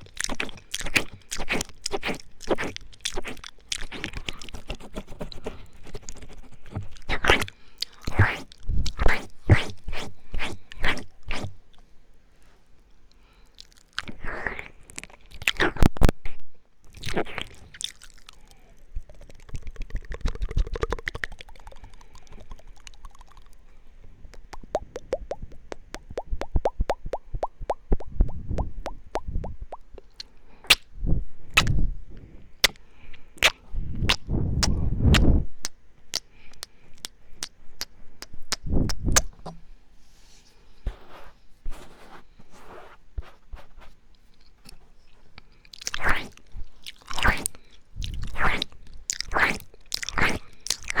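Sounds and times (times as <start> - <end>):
mouth licking and smacking: 0.0 - 11.8, 13.6 - 16.0, 16.9 - 30.9, 31.6 - 31.8, 32.6 - 39.6, 45.4 - 51.0.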